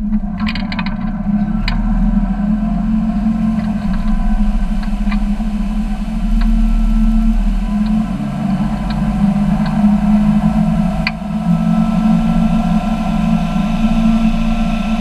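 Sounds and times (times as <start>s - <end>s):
boat engine droning: 0.0s - 15.0s
wake water rushing: 0.0s - 15.0s.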